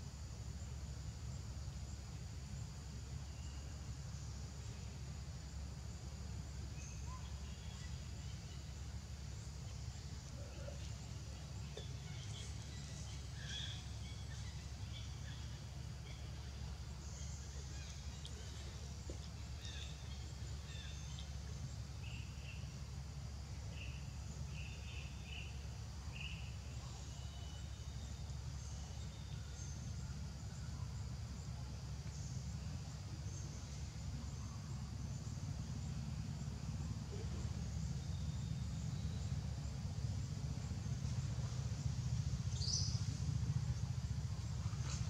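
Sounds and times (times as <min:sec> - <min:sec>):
insect-like hiss: 0:00.0 - 0:45.0.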